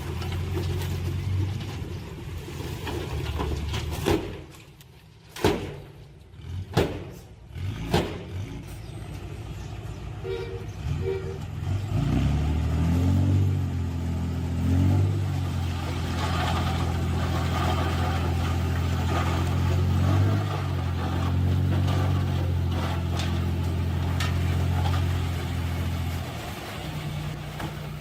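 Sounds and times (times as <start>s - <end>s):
diesel engine of heavy machinery: 0.0s - 28.0s.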